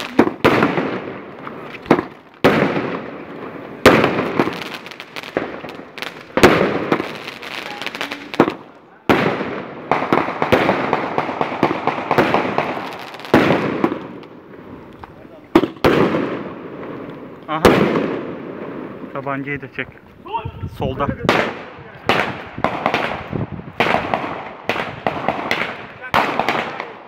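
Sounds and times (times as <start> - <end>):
fireworks bangs with rumbling echo: 0.0 - 19.7, 20.9 - 27.0
fireworks crackling: 0.0 - 27.0.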